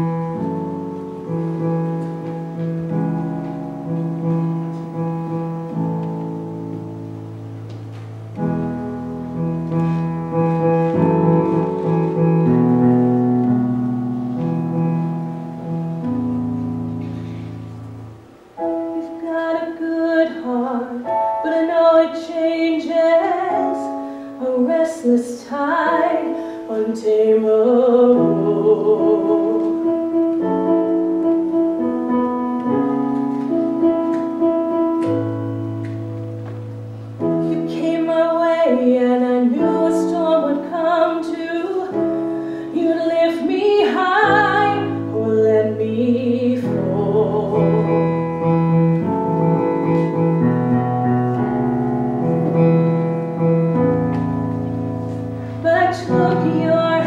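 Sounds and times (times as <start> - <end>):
slow piano and keyboard chords: 0.0 - 57.0.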